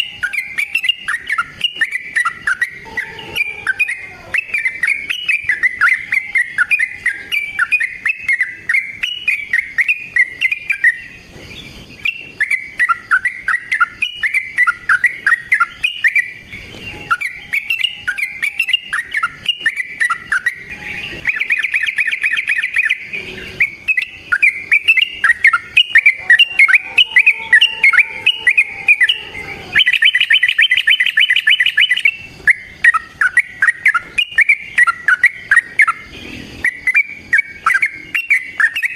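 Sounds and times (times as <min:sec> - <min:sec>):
fast bird trills: 0:00.0 - 0:11.3, 0:11.9 - 0:38.9
bulbul chattering song: 0:00.0 - 0:38.9.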